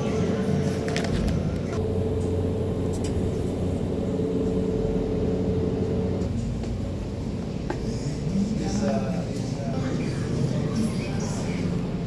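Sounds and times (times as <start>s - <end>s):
refrigerated display cases humming: 0.0s - 12.0s.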